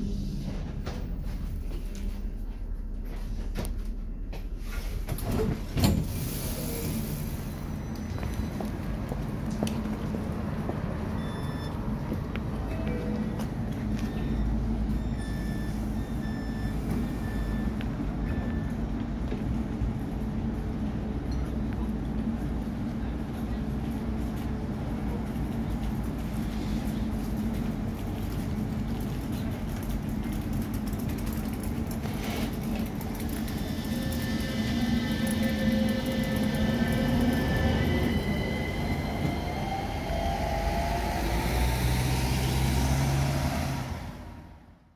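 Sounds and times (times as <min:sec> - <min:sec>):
tram humming: 0:00.0 - 0:44.9.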